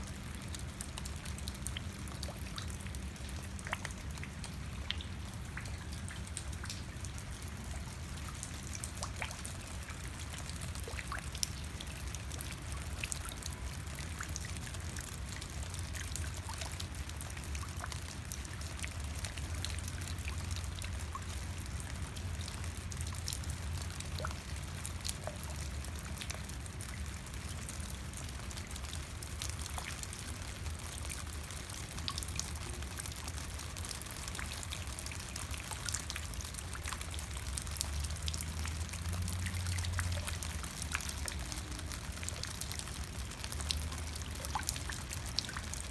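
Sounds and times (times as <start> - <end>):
steady rain: 0.0 - 45.9
water trickling and pouring: 0.1 - 45.9.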